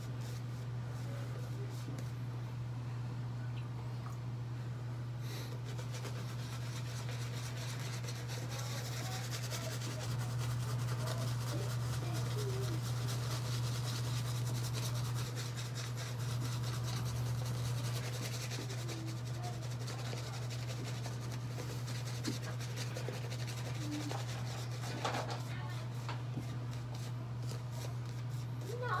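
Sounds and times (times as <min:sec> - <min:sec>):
air conditioner hum: 0:00.0 - 0:29.0
shaving brush swishing on face: 0:05.4 - 0:29.0.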